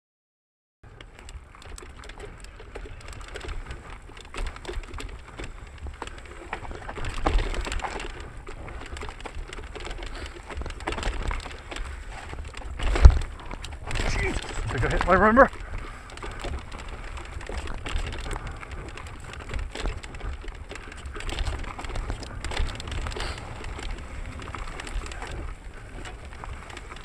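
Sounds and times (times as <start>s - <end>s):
bike rattling over bumps: 0.8s - 27.0s
tyres crackling over dirt: 0.9s - 27.0s
wind rumble: 1.1s - 27.0s.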